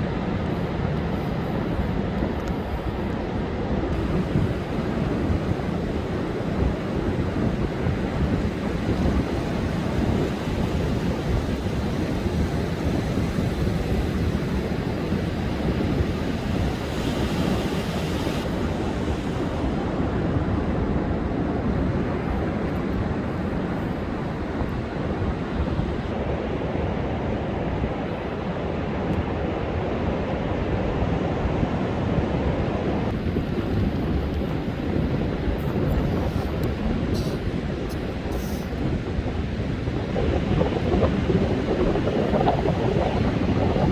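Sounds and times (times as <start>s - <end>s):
heavy surf breaking on beach: 0.0s - 43.9s
wind rumbling on microphone: 0.0s - 43.9s.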